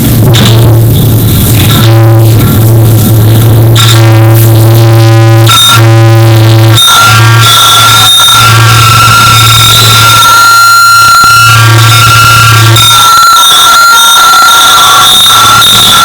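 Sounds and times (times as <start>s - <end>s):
harsh distorted noisy drone: 0.0s - 16.0s.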